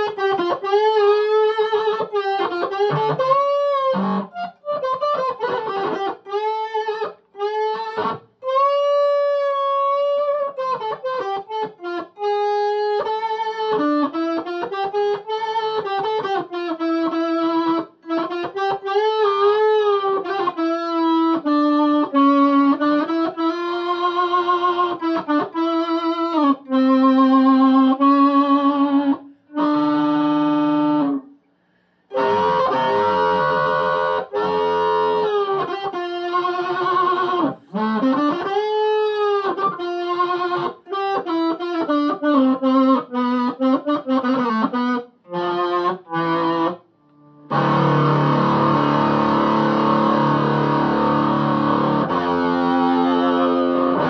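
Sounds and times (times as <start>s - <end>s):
fuzzed electric guitar notes: 0.0s - 54.0s.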